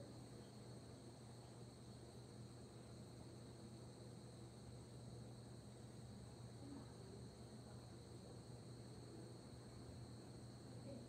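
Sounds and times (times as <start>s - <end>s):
faint high-pitched whine: 0.0s - 11.0s
faint low hum: 0.0s - 11.0s.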